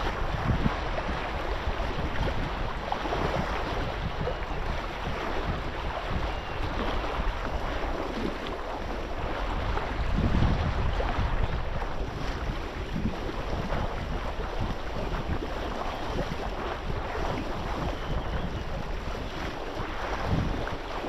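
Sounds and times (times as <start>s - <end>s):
waves washing: 0.0s - 21.0s
wind buffeting microphone: 0.0s - 21.0s.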